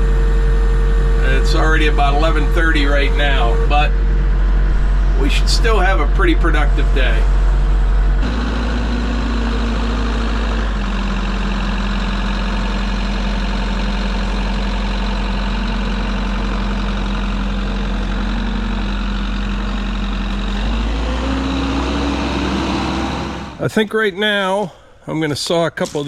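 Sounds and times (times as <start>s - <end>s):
heavy equipment engine running: 0.0s - 24.1s.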